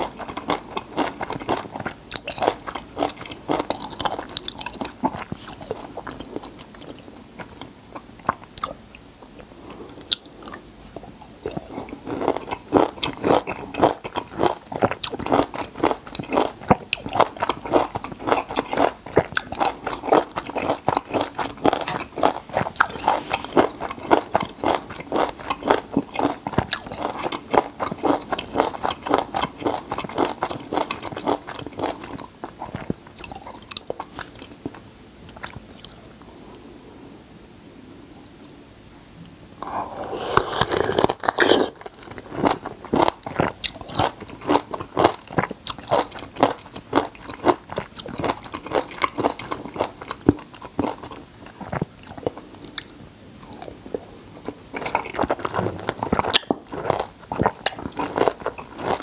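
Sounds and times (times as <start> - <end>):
person chewing crunching: 0.0 - 8.8, 9.4 - 36.1, 39.6 - 59.0.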